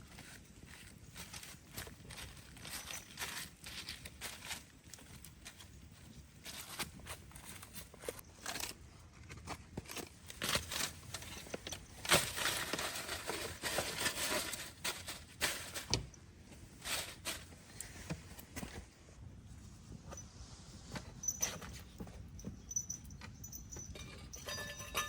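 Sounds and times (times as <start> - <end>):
rustling and crackling: 0.0 - 25.0.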